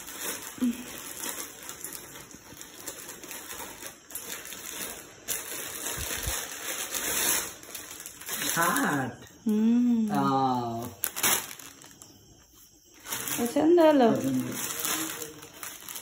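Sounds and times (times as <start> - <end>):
packaging rustling and tearing: 0.0 - 9.1, 10.9 - 12.2, 13.0 - 16.0.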